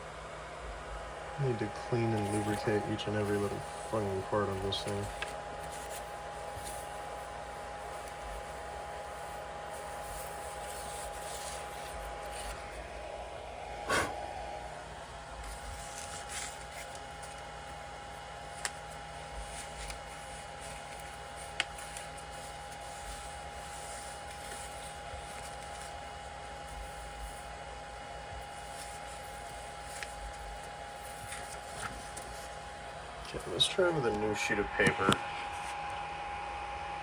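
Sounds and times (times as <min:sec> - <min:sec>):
steady hum with high tone: 0:00.0 - 0:37.0.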